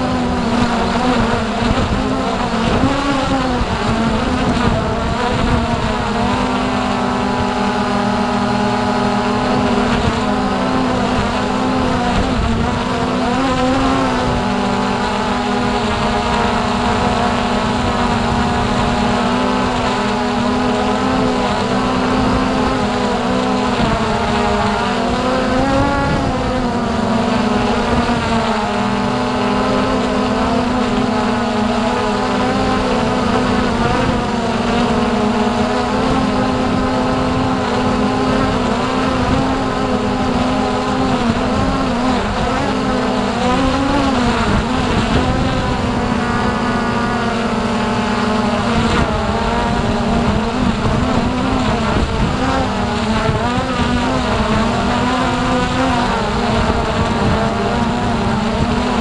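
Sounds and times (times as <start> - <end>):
quadcopter propellers whining: 0.0 - 59.0.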